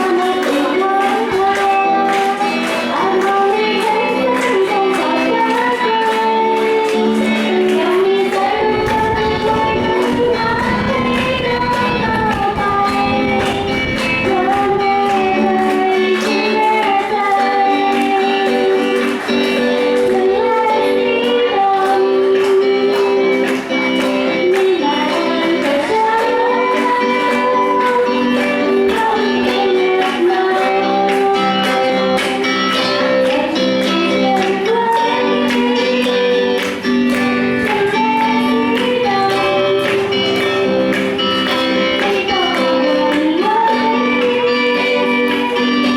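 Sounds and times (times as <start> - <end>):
guitar accompaniment: 0.0 - 45.9
young woman singing: 0.0 - 45.9.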